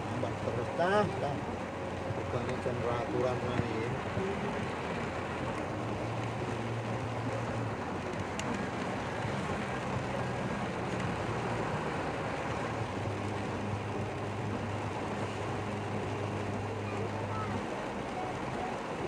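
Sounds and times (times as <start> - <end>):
car engine humming: 0.0 - 19.0
heavy rain falling: 0.0 - 19.0.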